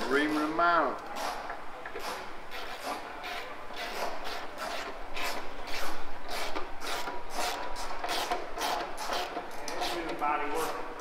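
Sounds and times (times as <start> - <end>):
hand reamer rasping metal: 2.0 - 10.9.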